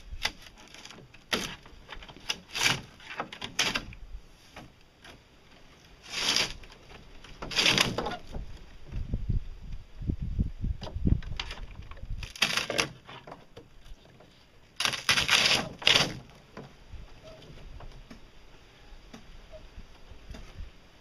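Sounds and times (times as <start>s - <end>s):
fiberglass shell crackling and scraping: 0.0s - 9.1s, 10.8s - 20.7s.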